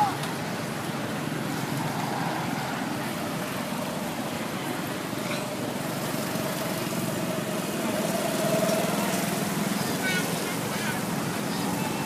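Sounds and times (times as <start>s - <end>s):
motorbike traffic: 0.0s - 12.0s.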